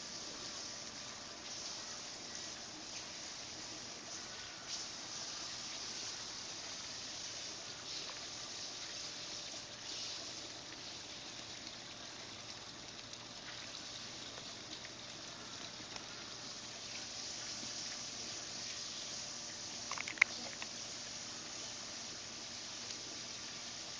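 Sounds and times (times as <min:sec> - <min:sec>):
running water rushing: 0:00.0 - 0:23.9.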